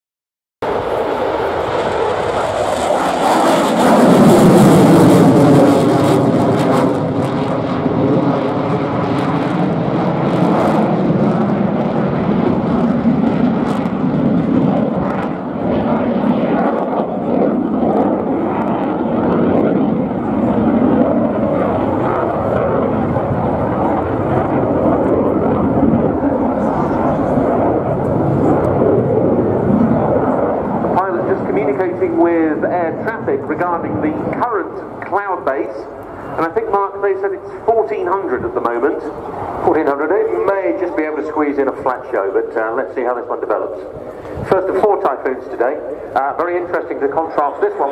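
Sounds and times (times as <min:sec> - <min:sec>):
jet engine roar passing: 0:00.6 - 0:47.9.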